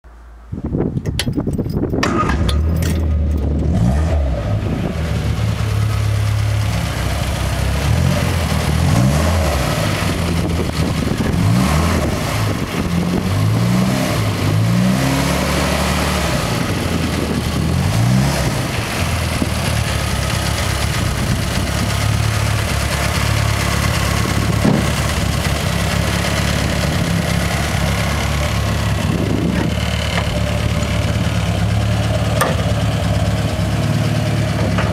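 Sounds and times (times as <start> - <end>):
car engine starting and revving: 2.0 - 34.9.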